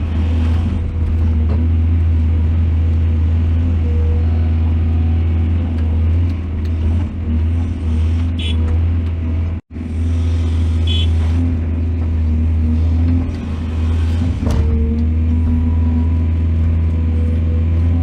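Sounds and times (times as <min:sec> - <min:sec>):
diesel excavator engine droning: 0:00.0 - 0:18.0.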